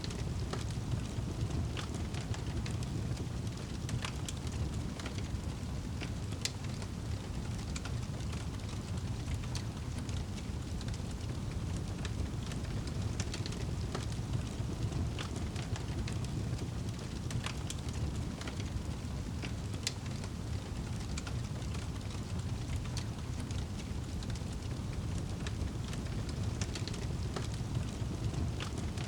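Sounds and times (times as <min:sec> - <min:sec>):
low rumble of flames: 0:00.0 - 0:29.0
wood fire crackling: 0:00.0 - 0:29.0.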